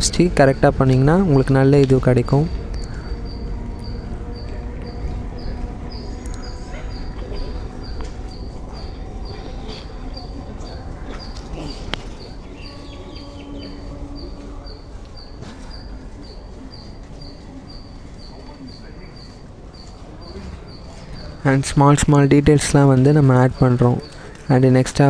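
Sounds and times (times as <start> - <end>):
low rumble and hum: 0.0 - 25.0.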